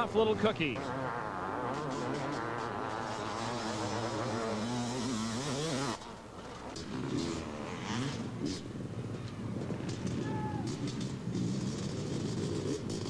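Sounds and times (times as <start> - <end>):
motocross bike engine buzzing: 0.0 - 13.0.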